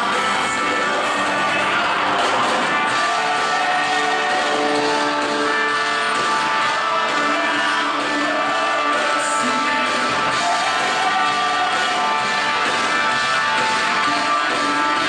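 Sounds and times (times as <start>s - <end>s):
live band with guitar: 0.0s - 15.0s
person singing: 0.0s - 15.0s.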